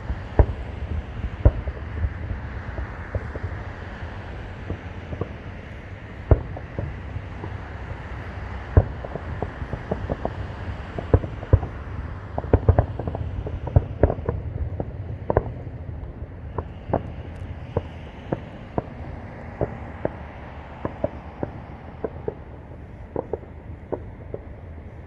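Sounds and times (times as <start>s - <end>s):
distant fireworks bangs: 0.0s - 25.0s
low background rumble: 0.0s - 25.0s.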